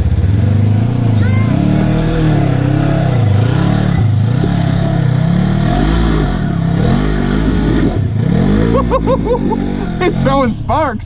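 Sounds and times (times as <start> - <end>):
engine revving up and down: 0.0 - 10.8.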